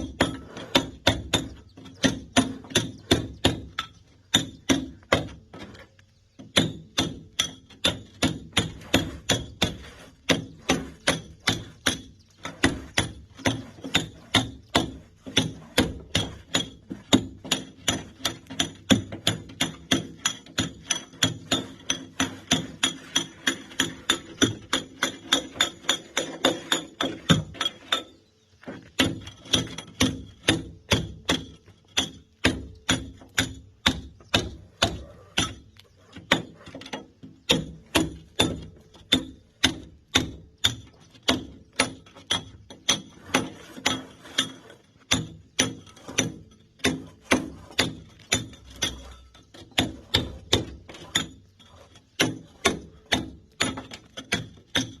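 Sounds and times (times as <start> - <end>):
hammer striking steel chisel: 6.4 - 28.1, 29.0 - 55.0.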